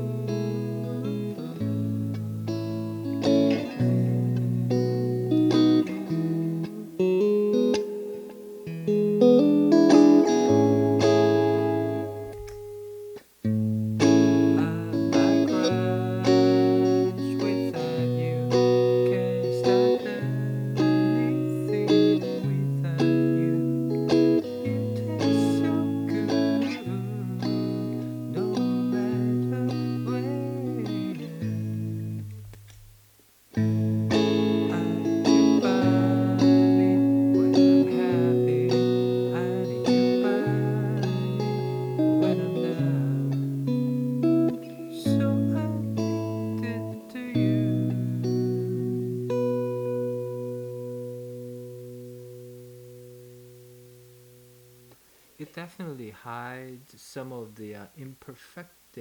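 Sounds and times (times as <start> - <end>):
guitar chords with delay: 0.0 - 55.1.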